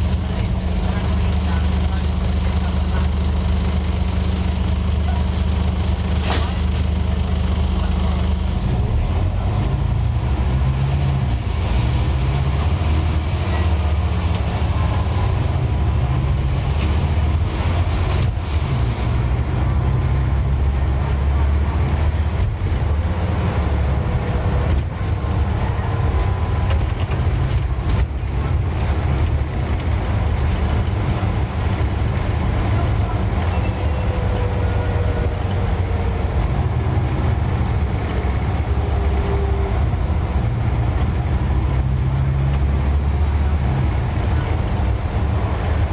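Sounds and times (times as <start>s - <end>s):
bus diesel engine rumble: 0.0s - 45.9s
drivetrain whine: 0.0s - 45.9s.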